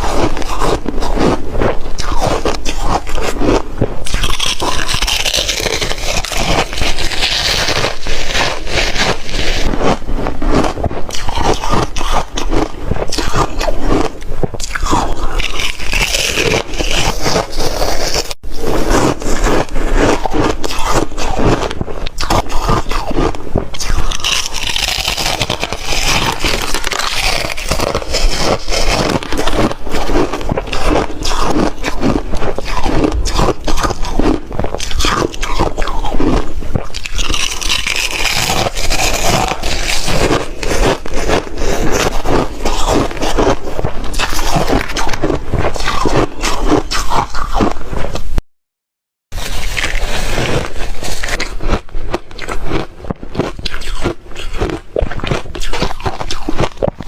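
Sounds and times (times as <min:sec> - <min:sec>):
person crunching ice: 0:00.0 - 0:48.3, 0:49.4 - 0:57.0.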